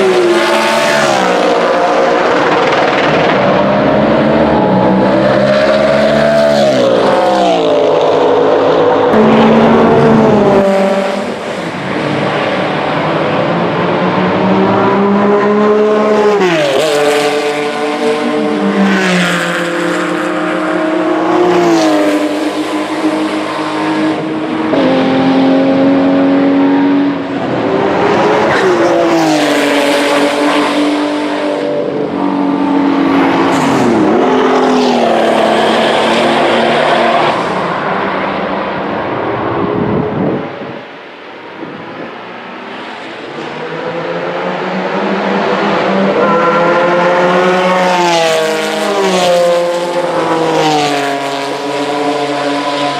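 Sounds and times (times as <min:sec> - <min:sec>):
race car engines at full throttle: 0:00.0 - 0:52.9.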